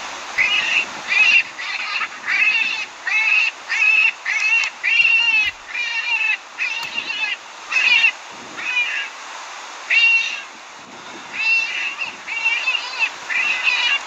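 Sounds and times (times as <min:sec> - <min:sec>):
high-pitched animal distress cries: 0:00.4 - 0:09.1, 0:09.9 - 0:10.5, 0:11.3 - 0:14.0.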